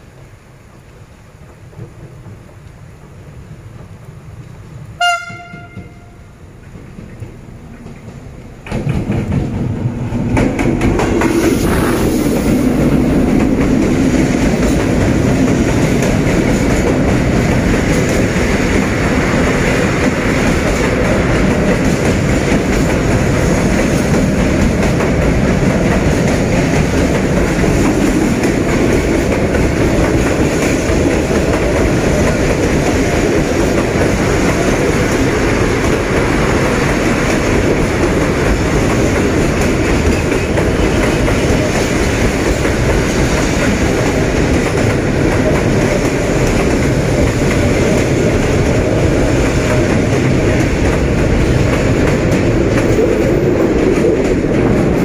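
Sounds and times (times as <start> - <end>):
freight train rumbling past: 0.0 - 55.0
wheels clacking over rail joints: 0.8 - 55.0.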